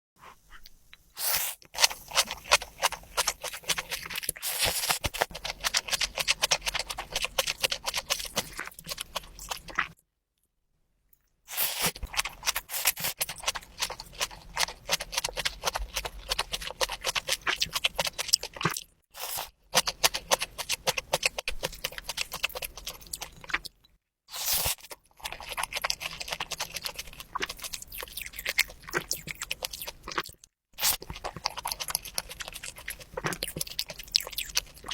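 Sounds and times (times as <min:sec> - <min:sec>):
crunchy bites and wet chewing: 0:00.6 - 0:10.0, 0:11.5 - 0:34.9.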